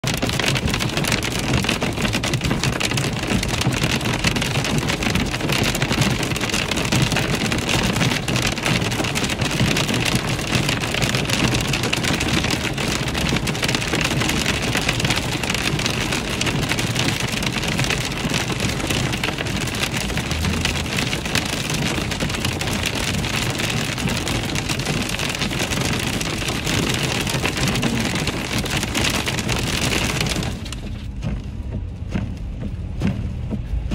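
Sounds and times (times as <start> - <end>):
hail pelting car windshield: 0.0 - 33.9.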